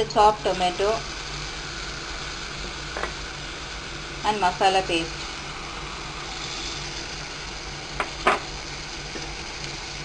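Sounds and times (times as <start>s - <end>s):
faint hum: 0.0s - 10.0s
food cooking in pot hissing: 0.0s - 10.0s.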